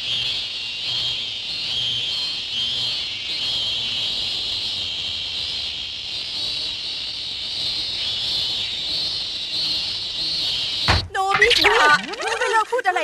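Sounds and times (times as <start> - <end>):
insect chorus chirring: 0.0 - 13.0.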